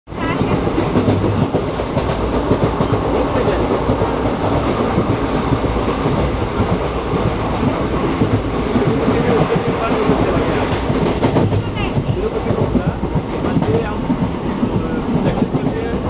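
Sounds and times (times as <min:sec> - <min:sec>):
train wheels rumbling on rail: 0:00.1 - 0:16.0.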